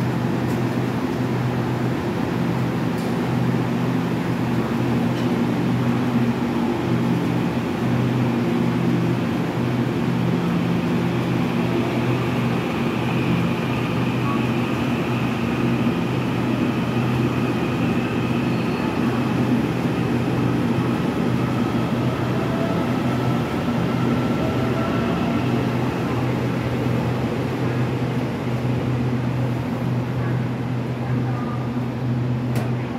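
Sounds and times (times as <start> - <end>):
electric train humming and whining: 0.0 - 32.9.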